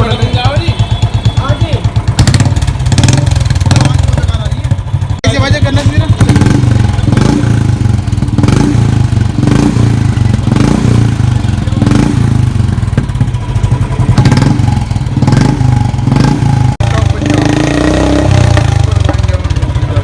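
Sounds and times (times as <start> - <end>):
motorcycle engine thumping: 0.0 - 20.0.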